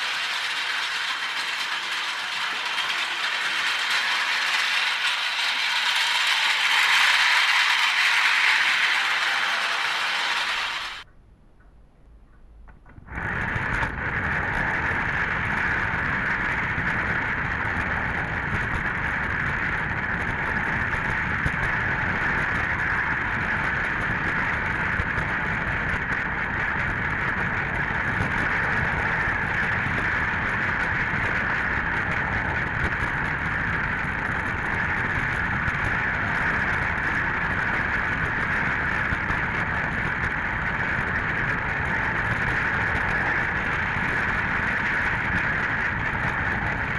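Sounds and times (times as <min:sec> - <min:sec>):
toy train motor whirring: 0:00.0 - 0:11.0, 0:18.8 - 0:46.9.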